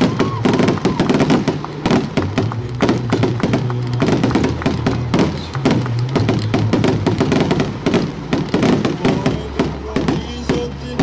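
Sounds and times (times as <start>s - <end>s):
fireworks bangs and cracks: 0.0s - 11.0s
music with steady bass line: 0.1s - 11.0s.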